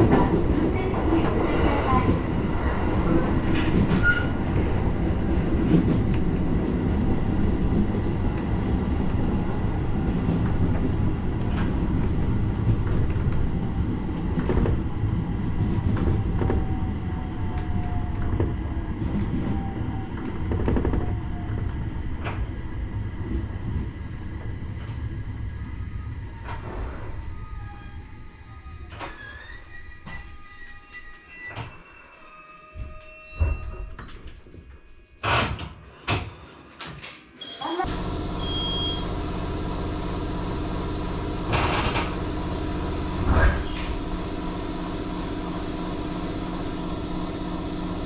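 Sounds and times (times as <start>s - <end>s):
train wheels rumbling on rails: 0.0s - 30.9s, 37.0s - 48.0s.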